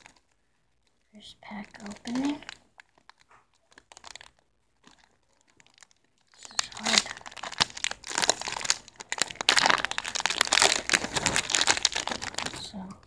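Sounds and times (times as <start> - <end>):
foil pack crinkling: 0.0 - 13.0.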